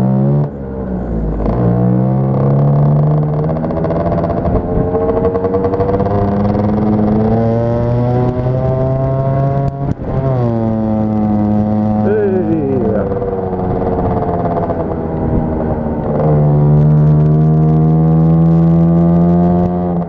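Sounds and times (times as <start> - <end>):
scooter engine revving: 1.5 - 17.6.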